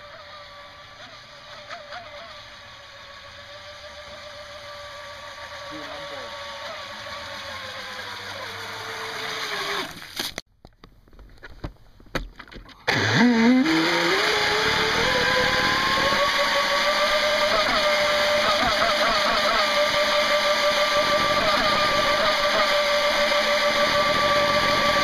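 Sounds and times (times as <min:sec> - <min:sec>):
electric motor whining: 0:00.0 - 0:10.2, 0:12.9 - 0:25.0.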